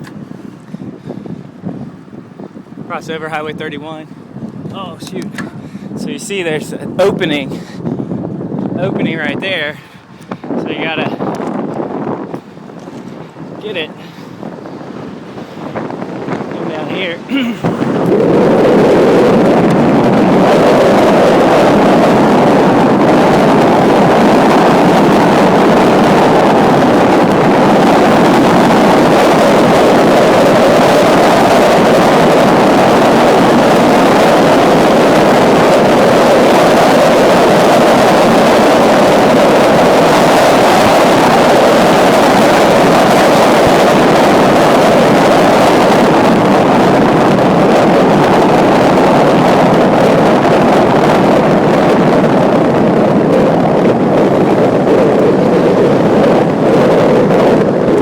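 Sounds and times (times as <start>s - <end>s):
wind rush over microphone: 0.0s - 58.0s.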